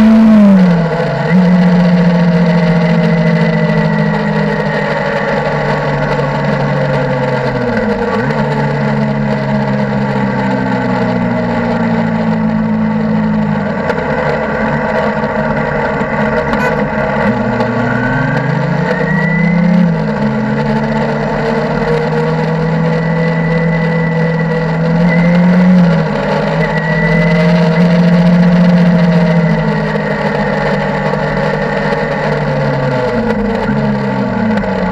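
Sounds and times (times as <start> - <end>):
motorcycle engine shifting gears: 0.0 - 34.9.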